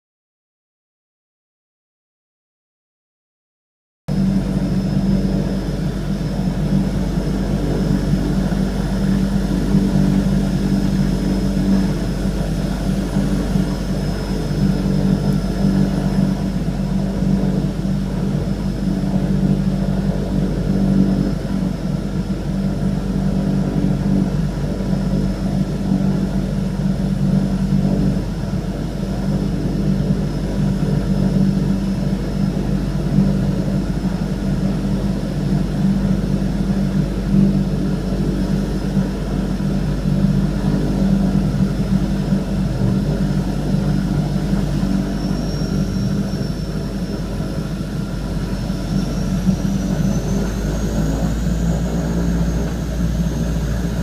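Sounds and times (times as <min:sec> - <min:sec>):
high turbine whine: 0:04.1 - 0:54.0
propeller drone: 0:04.1 - 0:54.0.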